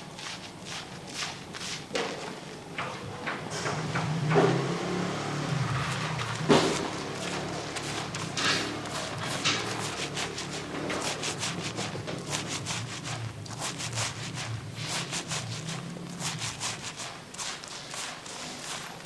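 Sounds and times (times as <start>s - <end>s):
wet rubbing of lathered hair: 0.0s - 1.9s, 4.6s - 19.0s.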